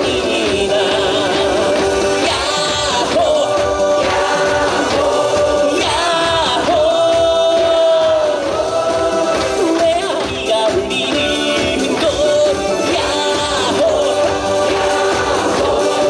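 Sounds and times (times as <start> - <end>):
loud backing track: 0.0 - 16.0
man singing: 0.0 - 16.0.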